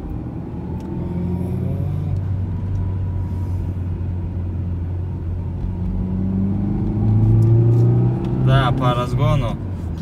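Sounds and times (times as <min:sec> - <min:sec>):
car engine from inside cabin: 0:00.0 - 0:10.0.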